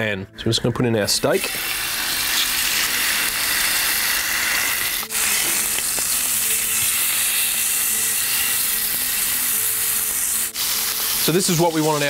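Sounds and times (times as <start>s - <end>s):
steak sizzling in a frying pan: 1.3s - 12.0s.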